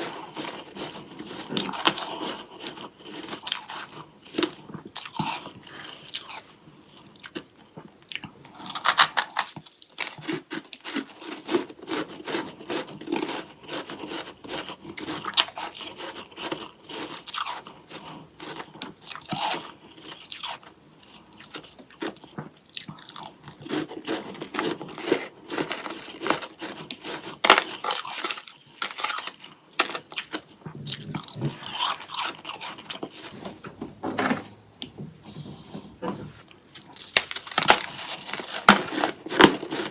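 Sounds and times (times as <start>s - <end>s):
chewing crunchy frost: 0.0s - 33.5s, 36.4s - 39.9s.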